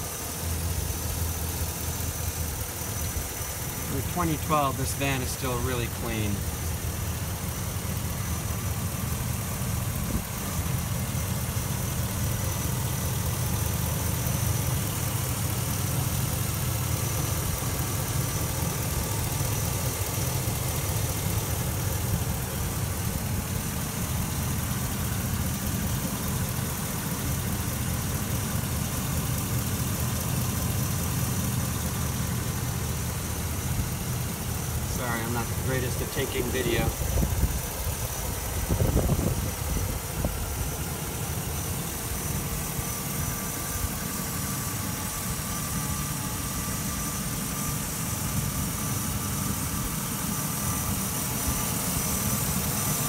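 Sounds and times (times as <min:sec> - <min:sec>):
van engine idling: 0:00.0 - 0:53.0.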